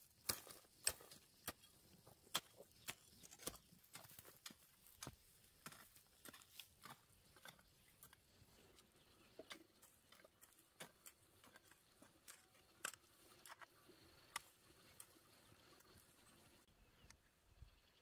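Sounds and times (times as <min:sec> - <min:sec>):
hoes chopping into dry soil: 0:00.0 - 0:16.0.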